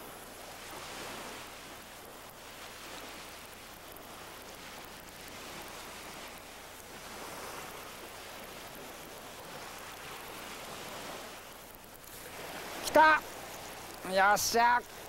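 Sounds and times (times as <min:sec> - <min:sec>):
small lake waves washing: 0:00.0 - 0:15.0.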